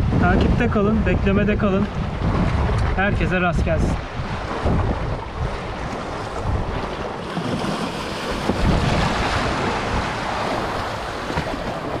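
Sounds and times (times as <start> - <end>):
wind buffeting microphone: 0.0 - 12.0
waves washing against rocks: 1.8 - 12.0.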